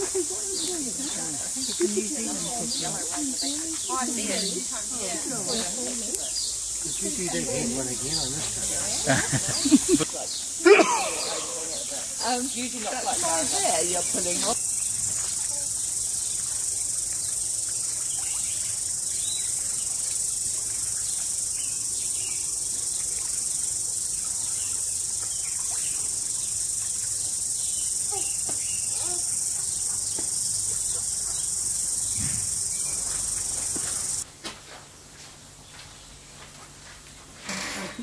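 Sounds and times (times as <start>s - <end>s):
shrill insect chorus: 0.0s - 34.2s.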